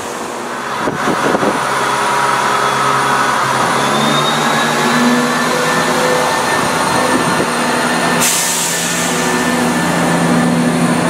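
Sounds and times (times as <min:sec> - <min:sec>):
diesel train engine whining: 0:00.0 - 0:11.0.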